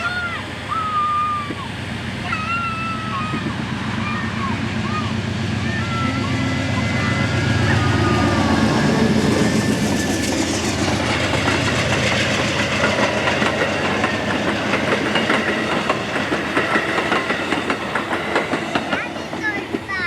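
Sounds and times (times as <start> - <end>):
train low rumble: 0.0 - 20.0
train wheels clicking on rail joints: 0.1 - 20.0.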